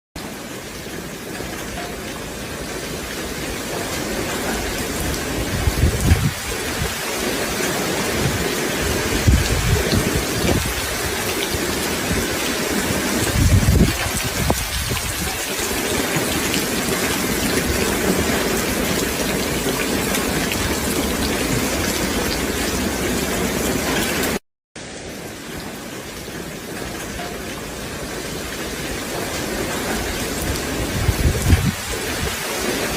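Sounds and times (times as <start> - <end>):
heavy rain falling: 0.2 - 32.9.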